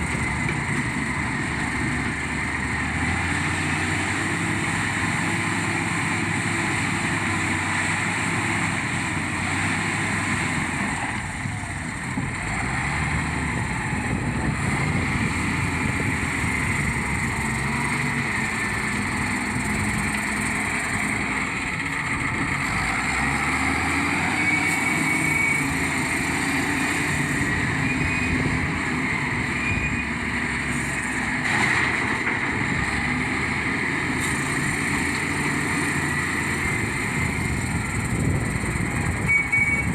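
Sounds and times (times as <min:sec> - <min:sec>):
heavy machine engine under load: 0:00.0 - 0:39.9.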